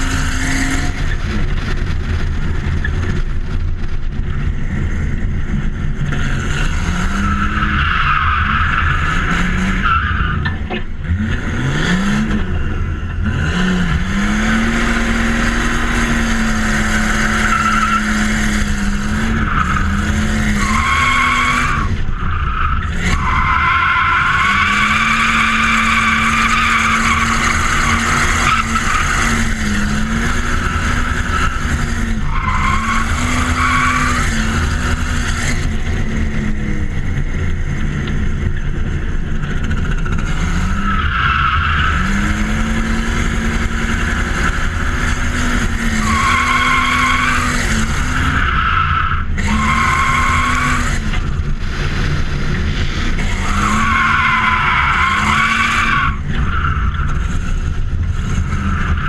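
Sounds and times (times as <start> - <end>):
car engine revving hard: 6.0 - 10.3, 11.0 - 59.0.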